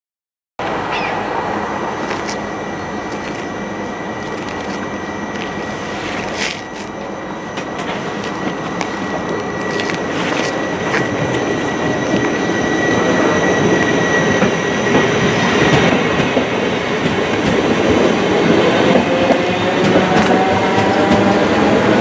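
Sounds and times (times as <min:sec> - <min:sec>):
train wheels on rails: 0:00.6 - 0:22.0.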